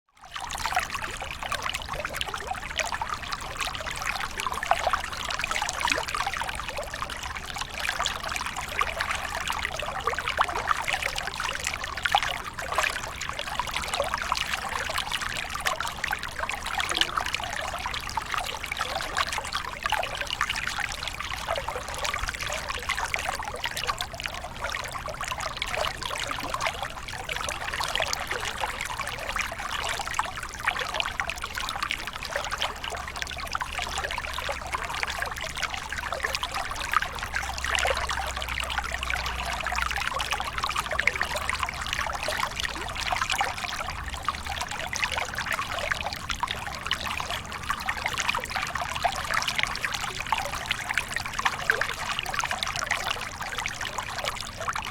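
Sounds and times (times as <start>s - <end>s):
small waterfall pouring: 0.3s - 54.9s.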